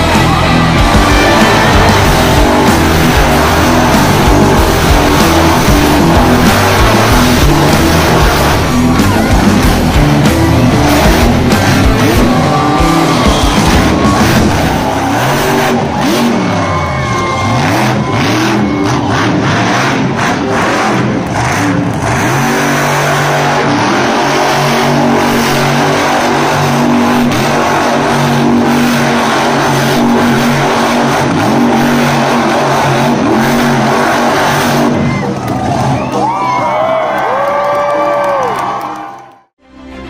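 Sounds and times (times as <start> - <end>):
monster truck engine revving: 0.0 - 39.5.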